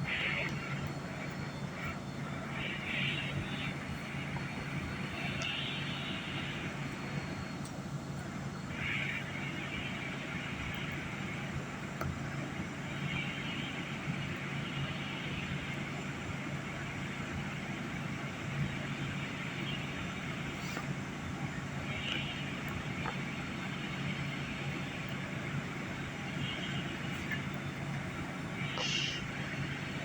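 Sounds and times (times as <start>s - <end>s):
general rumble: 0.0s - 30.0s
subway car equipment hum: 0.0s - 30.0s.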